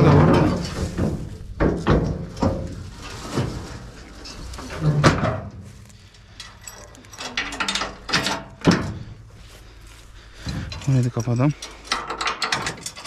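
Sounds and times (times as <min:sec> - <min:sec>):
metal trailer knocking and clanking: 0:00.0 - 0:09.5, 0:10.3 - 0:13.0.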